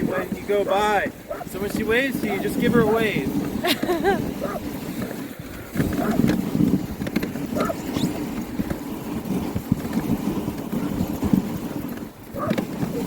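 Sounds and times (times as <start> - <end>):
sled scraping over snow: 0.0 - 13.0.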